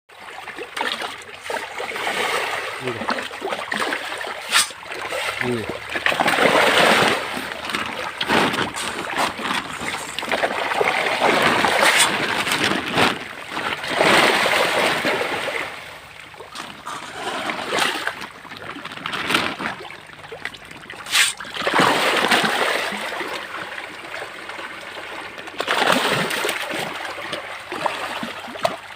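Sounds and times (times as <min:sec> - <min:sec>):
water splashing and sloshing: 0:00.1 - 0:28.9.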